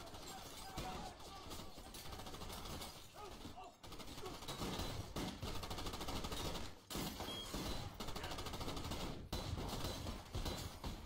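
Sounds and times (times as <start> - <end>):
rapid handgun shots: 0.0 - 11.0.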